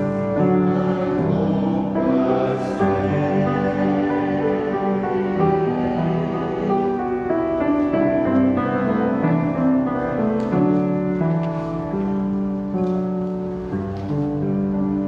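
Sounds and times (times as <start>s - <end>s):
church piano music: 0.0s - 15.0s.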